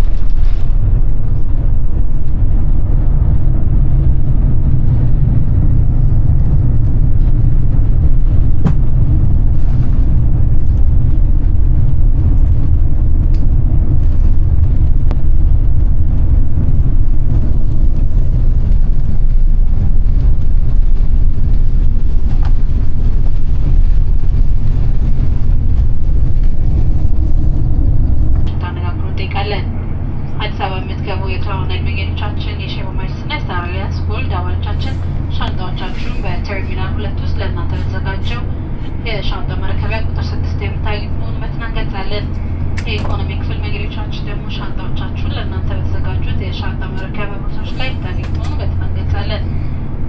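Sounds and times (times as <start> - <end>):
airliner cabin rumble: 0.0 - 50.0.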